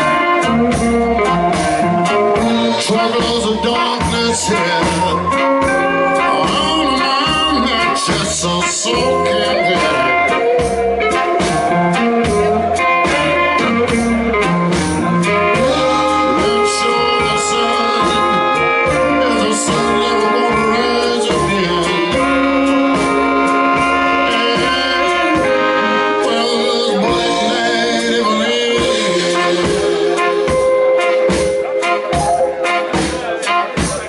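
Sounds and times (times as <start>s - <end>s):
drum beat: 0.0s - 27.7s, 28.7s - 34.0s
horn section chords: 0.0s - 34.0s.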